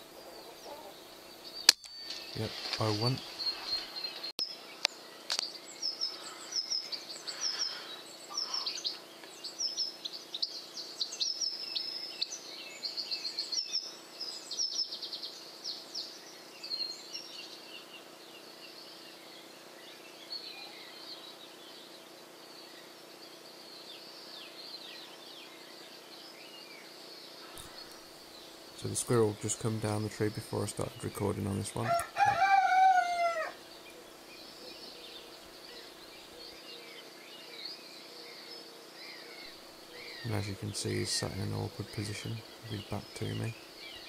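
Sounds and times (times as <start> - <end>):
faint low hum: 0.0 - 44.0
songbirds chirping and singing: 0.0 - 44.0.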